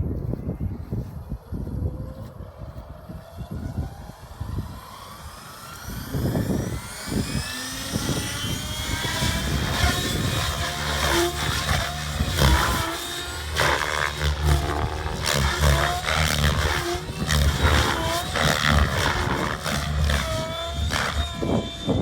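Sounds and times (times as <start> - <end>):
wind buffeting microphone: 0.0 - 22.0
model helicopter rotor whine: 1.2 - 22.0.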